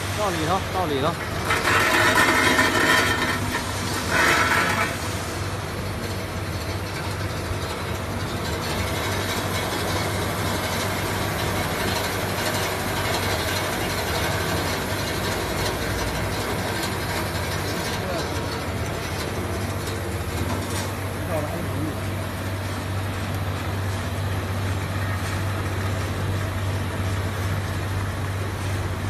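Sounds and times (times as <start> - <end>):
washing machine running: 0.0 - 29.0.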